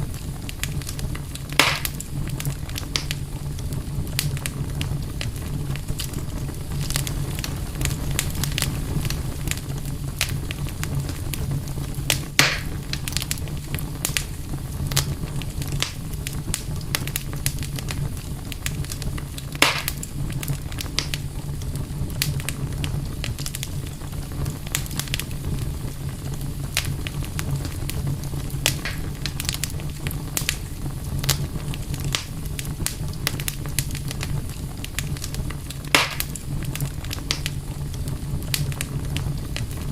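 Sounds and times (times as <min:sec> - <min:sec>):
campfire crackling: 0:00.0 - 0:39.9
loud fire snaps: 0:00.0 - 0:39.9.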